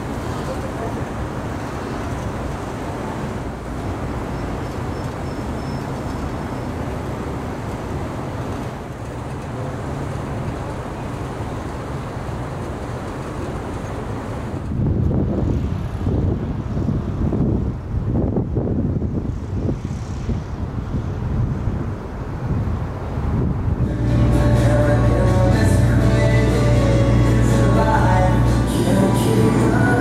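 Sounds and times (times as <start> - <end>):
road traffic noise: 0.0 - 30.0
wind gusts on microphone: 0.0 - 30.0.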